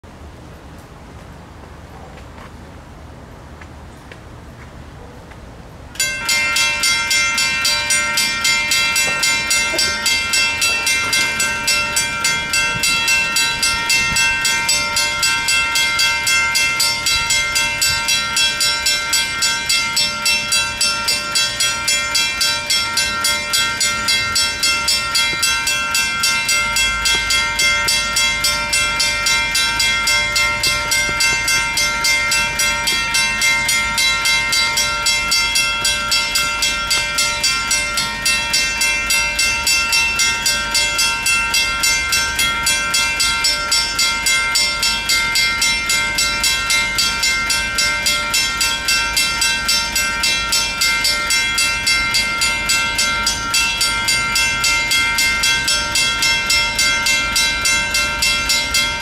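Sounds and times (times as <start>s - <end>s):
electronic crossing bell ringing: 6.0s - 59.0s
mechanical crossing bell ringing: 6.0s - 59.0s.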